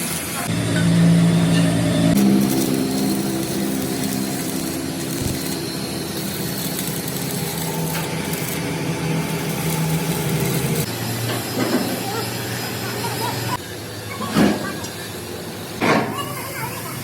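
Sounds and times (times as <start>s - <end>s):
machine motor running: 0.0s - 14.1s.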